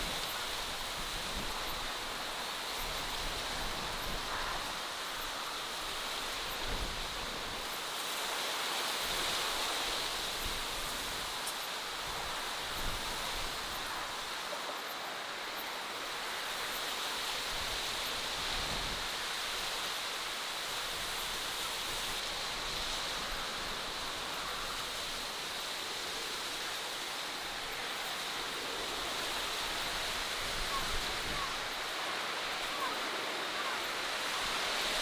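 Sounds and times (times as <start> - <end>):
rushing outdoor ambience: 0.0 - 35.0.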